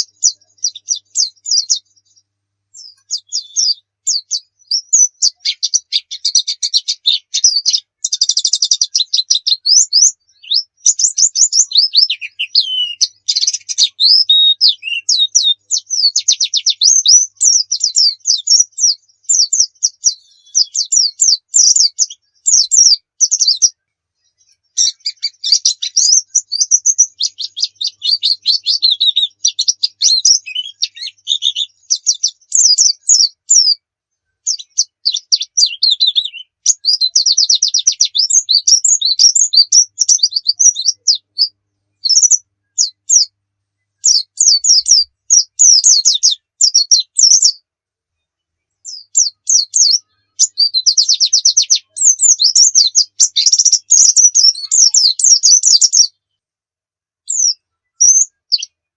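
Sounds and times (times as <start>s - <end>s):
bird twittering with fast trills: 0.0s - 43.4s, 44.0s - 47.7s, 48.6s - 56.2s, 57.3s - 58.8s.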